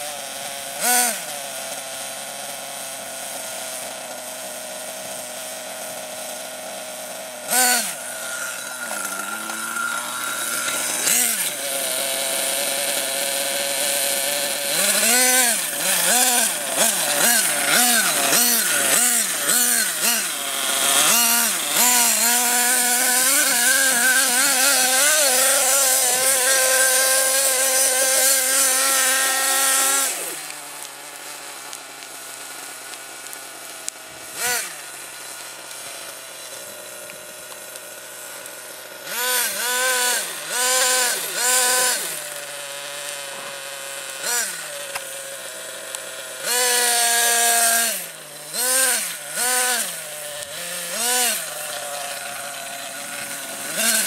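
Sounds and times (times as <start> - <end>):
small nitro engine revving: 0.0 - 54.0.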